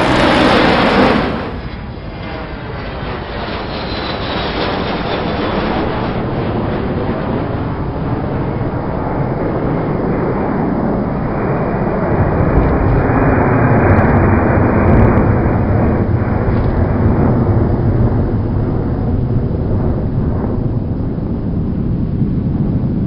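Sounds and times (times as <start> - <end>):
airliner cabin engine rush: 0.0 - 23.0.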